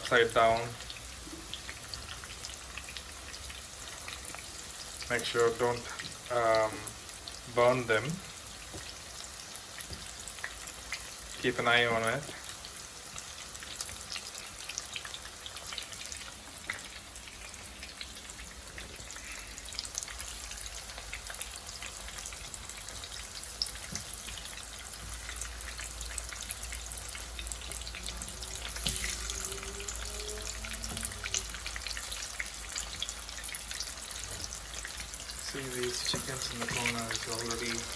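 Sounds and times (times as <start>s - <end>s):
chicken deep-frying in oil: 0.0s - 37.9s.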